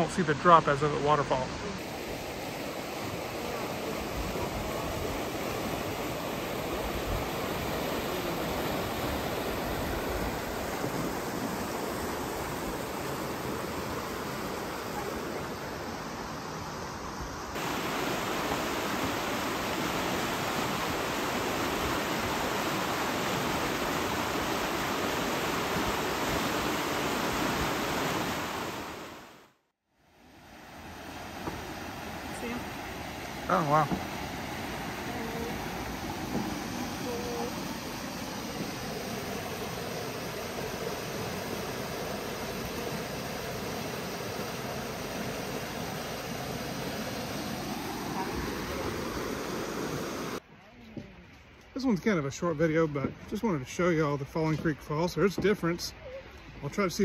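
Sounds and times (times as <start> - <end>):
creek water rushing: 0.0 - 50.6, 51.2 - 57.0.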